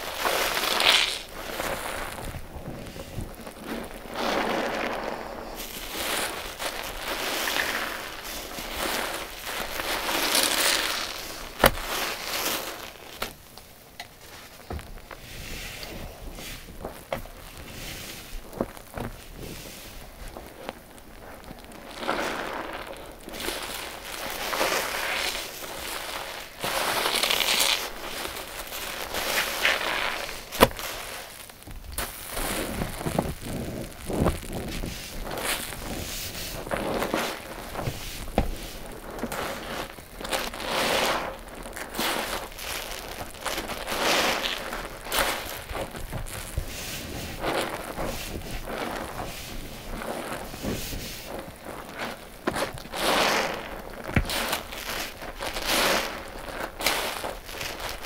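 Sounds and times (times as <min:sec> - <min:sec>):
wet sponges squelching: 0:00.0 - 0:58.0.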